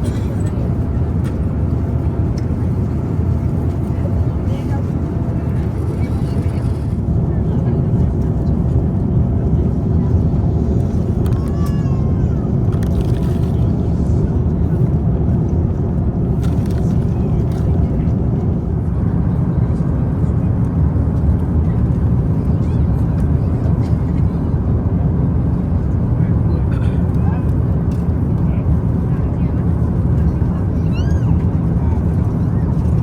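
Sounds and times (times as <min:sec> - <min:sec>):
airliner cabin roar: 0:00.0 - 0:33.0.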